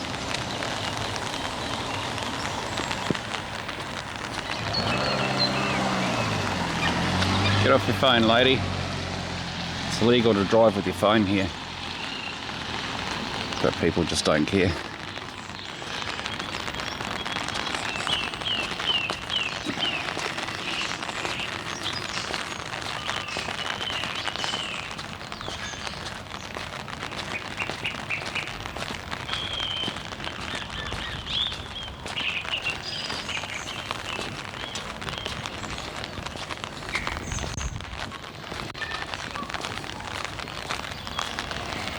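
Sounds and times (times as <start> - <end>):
birds chirping: 0.0 - 41.9
rain on an umbrella: 0.0 - 41.9.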